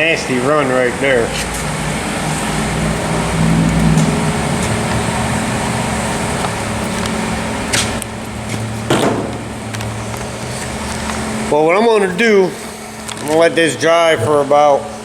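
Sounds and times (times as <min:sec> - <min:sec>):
mechanical hum with hiss: 0:00.0 - 0:15.0.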